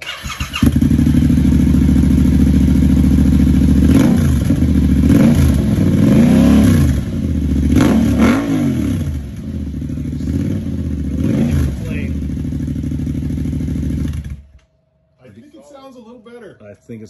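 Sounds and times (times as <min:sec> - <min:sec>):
motorcycle engine idling and revving: 0:00.0 - 0:14.6.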